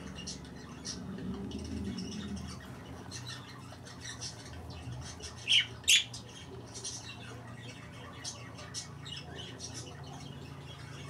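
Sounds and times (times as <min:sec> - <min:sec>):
budgerigars chattering: 0:02.0 - 0:11.0.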